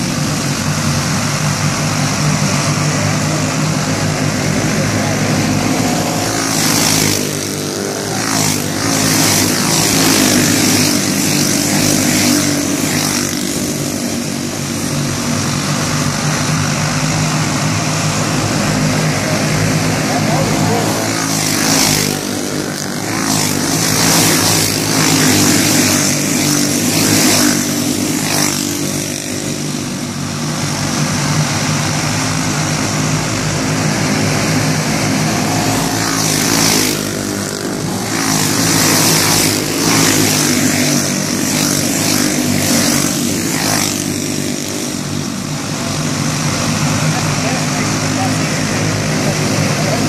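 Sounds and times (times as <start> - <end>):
racing karts buzzing drone: 0.0 - 50.0.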